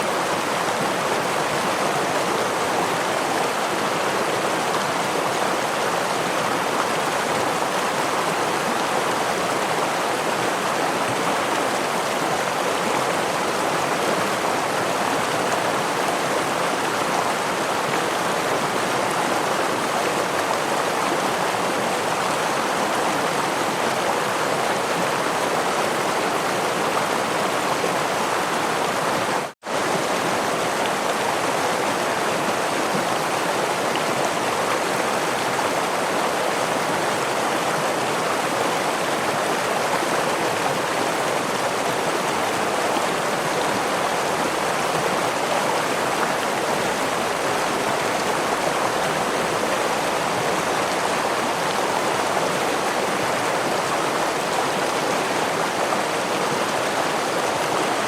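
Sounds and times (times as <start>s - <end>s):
small waterfall rushing: 0.0s - 58.0s.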